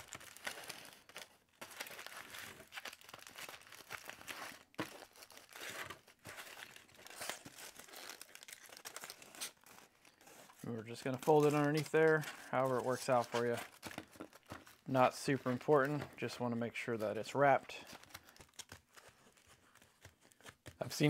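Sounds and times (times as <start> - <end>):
aluminium foil crinkling: 0.0 - 14.9, 17.8 - 21.0.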